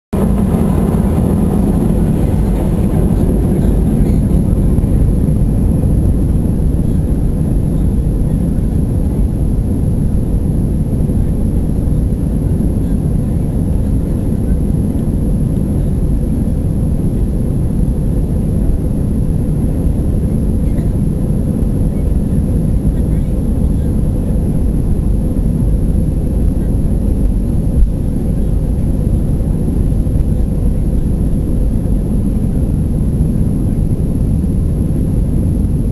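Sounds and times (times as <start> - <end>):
aircraft cabin engine rumble: 0.1 - 35.9.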